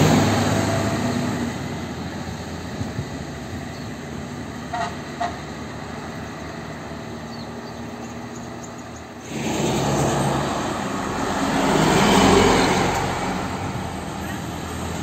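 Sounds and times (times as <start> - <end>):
bus passing by: 0.0 - 15.0
distant road traffic: 0.0 - 15.0.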